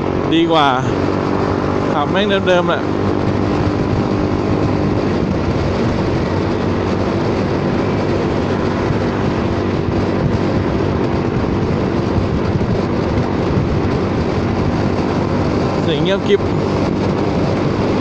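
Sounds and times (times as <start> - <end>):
scooter engine cruising: 0.0 - 18.0
wind and road noise: 0.0 - 18.0.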